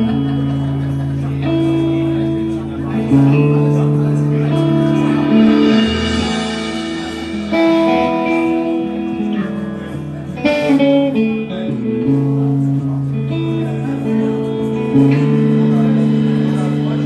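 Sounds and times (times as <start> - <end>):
bass: 0.0 - 17.0
guitar: 0.0 - 17.0
live band playing: 0.0 - 17.0.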